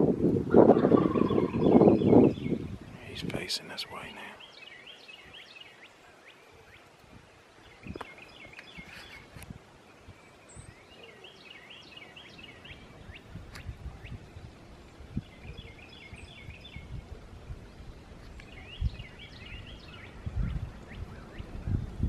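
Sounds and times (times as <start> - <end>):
wind gusts on microphone: 0.0 - 4.4, 7.0 - 10.9, 12.4 - 22.0
songbird chirping: 0.5 - 22.0.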